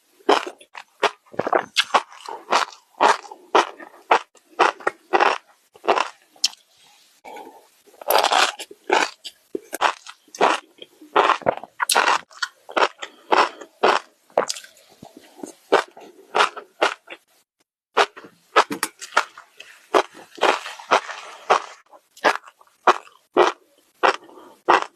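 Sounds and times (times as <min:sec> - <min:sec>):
crunchy chewing of food: 0:00.2 - 0:06.7, 0:07.3 - 0:17.3, 0:18.0 - 0:24.9.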